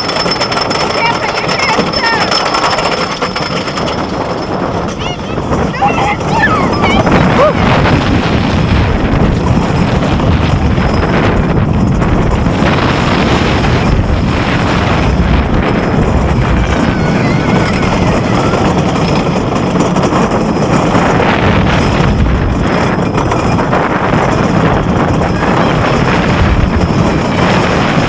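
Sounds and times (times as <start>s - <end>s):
roller coaster train rumbling on track: 0.0s - 28.0s
wind rushing over microphone: 0.0s - 28.0s.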